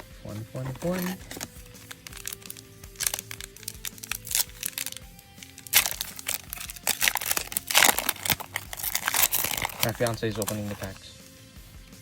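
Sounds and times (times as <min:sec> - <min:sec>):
slow background music: 0:00.0 - 0:12.0
foil wrappers crinkling: 0:00.3 - 0:11.0.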